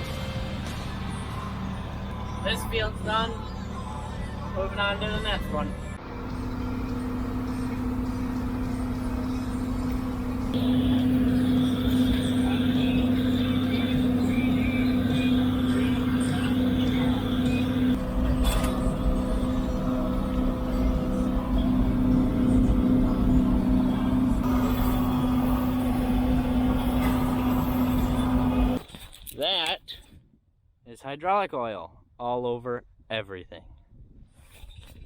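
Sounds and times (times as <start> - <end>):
tractor diesel engine running: 0.0 - 28.8
high engine whine: 0.0 - 28.9.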